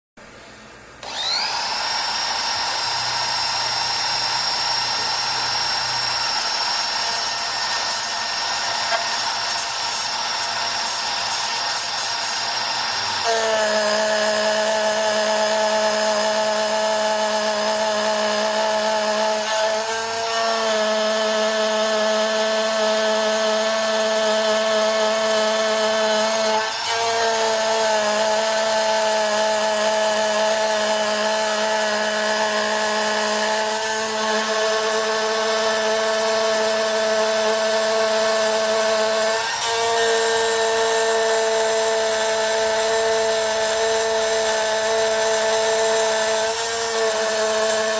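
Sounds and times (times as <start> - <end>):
engraving machine spindle whine: 1.0 - 47.9.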